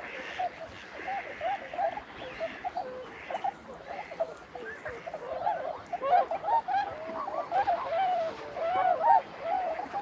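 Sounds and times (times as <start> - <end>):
flock of waterfowl calling: 0.0 - 10.0.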